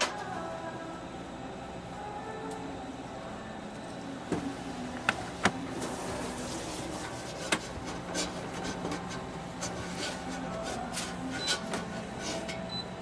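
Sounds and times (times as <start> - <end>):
kitchen background hum: 0.0 - 13.0.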